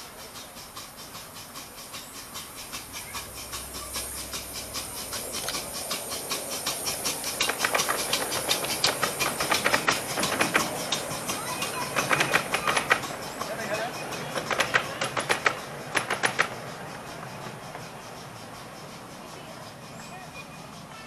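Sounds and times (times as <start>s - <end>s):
steam hiss: 0.0s - 21.0s
steam locomotive exhaust chuffs: 0.0s - 21.0s.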